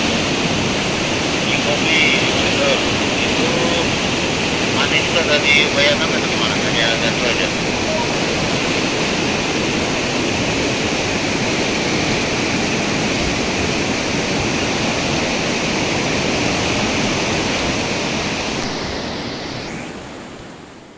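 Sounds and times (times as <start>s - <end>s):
river water rushing: 0.0s - 20.8s.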